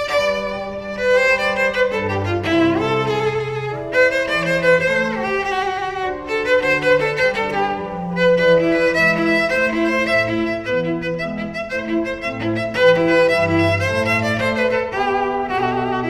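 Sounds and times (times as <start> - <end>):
bowed cello: 0.0 - 16.0.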